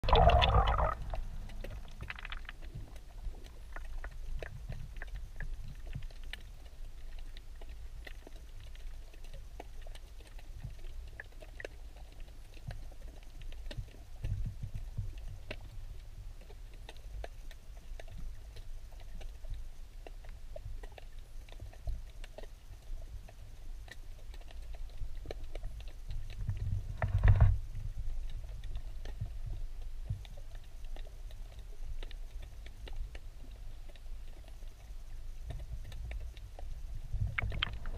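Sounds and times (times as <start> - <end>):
faint clicks and crackles: 0.0 - 37.9
underwater low rumble: 0.0 - 37.9.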